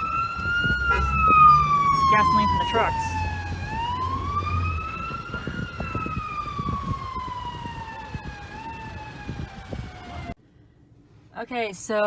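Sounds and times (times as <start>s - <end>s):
emergency vehicle siren wailing: 0.0s - 10.4s
low rumble: 0.0s - 10.4s.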